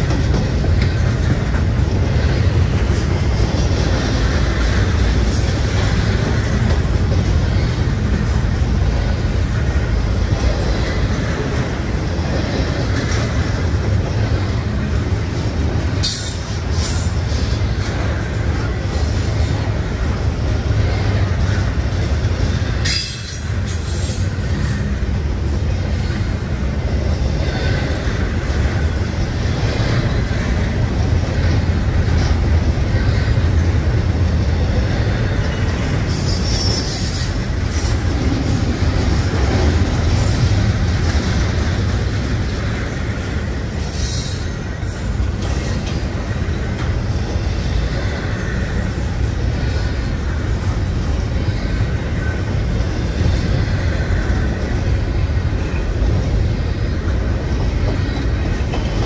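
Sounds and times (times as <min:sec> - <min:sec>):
freight train wheels rumbling on rail: 0:00.0 - 0:59.0.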